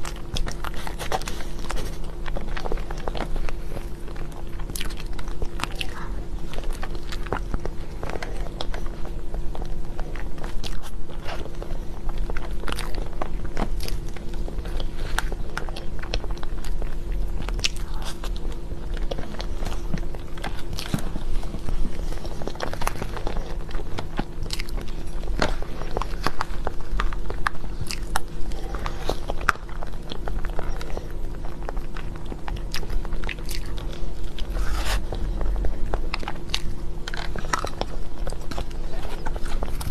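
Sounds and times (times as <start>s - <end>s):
chewing and crunching: 0.0s - 39.9s
steady low hum: 0.0s - 39.9s.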